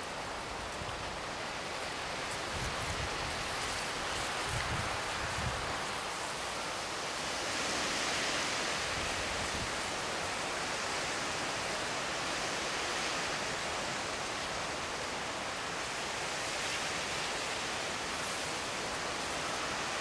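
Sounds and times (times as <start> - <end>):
wind through bamboo and shrubs: 0.0 - 20.0.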